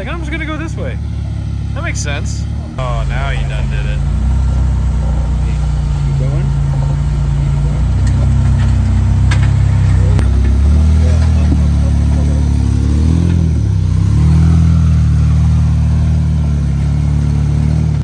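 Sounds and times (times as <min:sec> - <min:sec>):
vehicle engine revving under load: 0:00.0 - 0:18.0.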